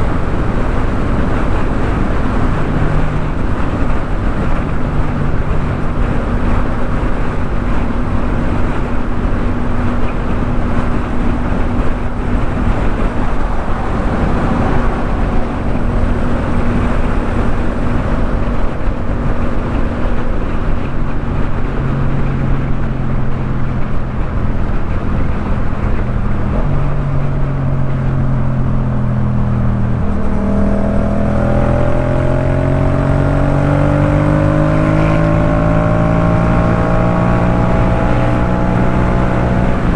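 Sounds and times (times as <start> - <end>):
motorcycle engine running: 0.0 - 34.6
wind noise: 0.0 - 39.9.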